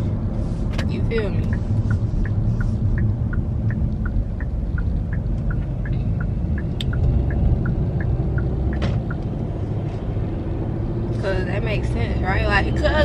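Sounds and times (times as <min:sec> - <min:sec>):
car cabin rumble: 0:00.0 - 0:10.5
turn signal ticking: 0:00.1 - 0:13.0.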